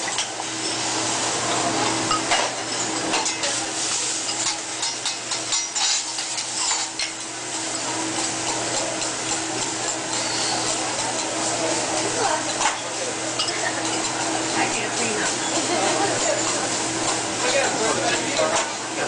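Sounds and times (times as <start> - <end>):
food sizzling on a griddle: 0.0 - 19.0
metal utensils tapping and scraping: 2.1 - 18.8.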